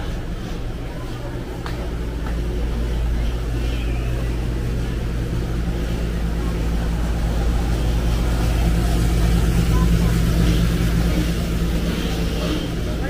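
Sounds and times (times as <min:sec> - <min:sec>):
indistinct voices: 0:00.0 - 0:13.0
low rumble: 0:00.0 - 0:13.0.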